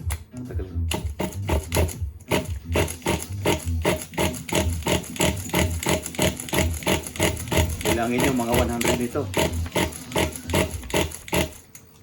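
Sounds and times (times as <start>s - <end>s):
engine turning over: 0.9s - 11.7s
pull-starter rasping strokes: 0.9s - 11.7s.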